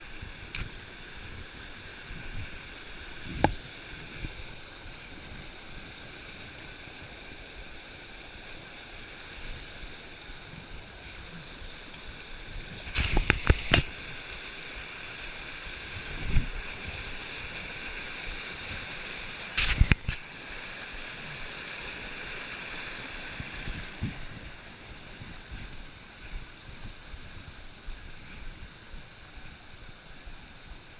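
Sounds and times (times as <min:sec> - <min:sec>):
creek rushing over rocks: 0:00.0 - 0:30.9.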